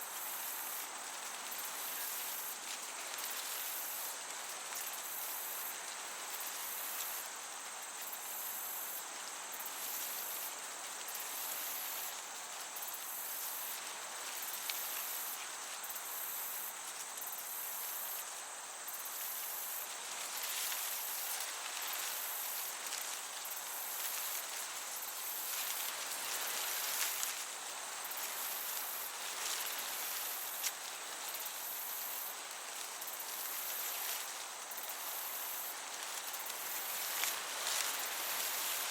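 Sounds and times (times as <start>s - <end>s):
crickets chirping: 0.0s - 38.9s
gentle breeze: 0.0s - 38.9s.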